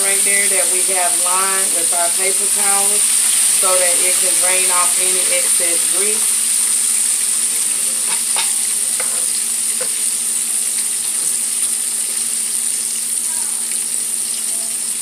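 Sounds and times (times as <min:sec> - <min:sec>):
oil sizzling while deep-frying: 0:00.0 - 0:15.0.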